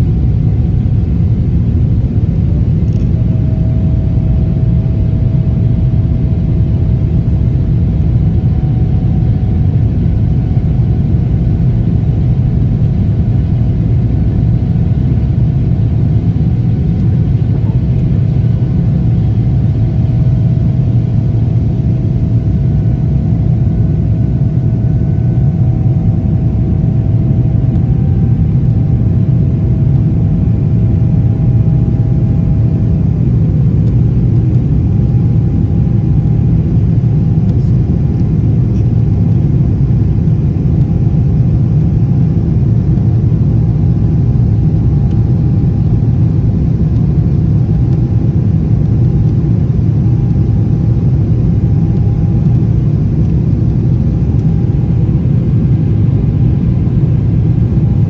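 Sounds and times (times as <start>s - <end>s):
airliner cabin rumble: 0.0s - 58.0s
faint hums: 0.0s - 58.0s.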